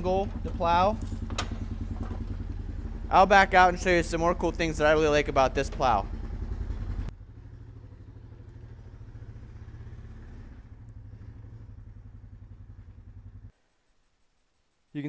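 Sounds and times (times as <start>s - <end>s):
engine running at low revs: 0.0s - 13.5s.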